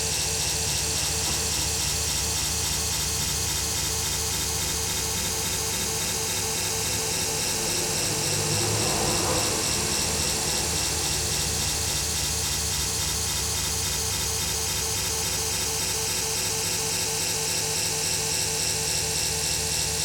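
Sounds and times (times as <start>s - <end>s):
harsh electronic buzz: 0.0s - 20.0s.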